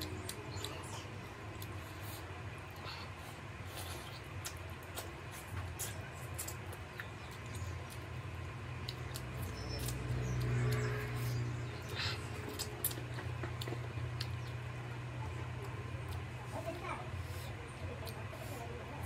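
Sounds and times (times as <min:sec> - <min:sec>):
chewing and lip-smacking: 0:00.0 - 0:19.0
steady low hum: 0:00.0 - 0:19.0.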